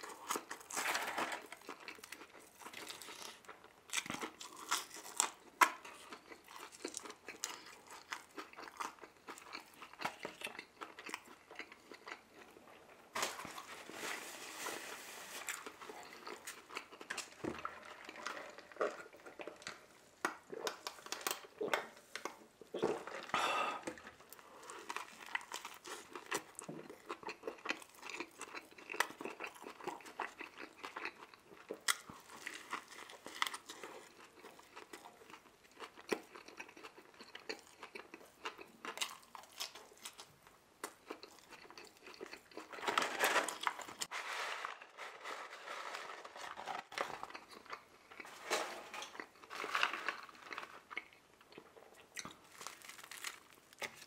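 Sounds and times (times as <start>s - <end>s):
person chewing food: 0.0s - 14.2s, 14.8s - 44.1s, 46.3s - 54.0s.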